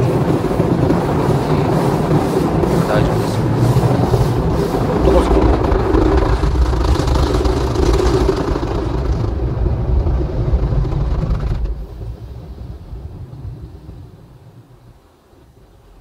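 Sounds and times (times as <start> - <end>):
car wash water and rumble: 0.0 - 16.0.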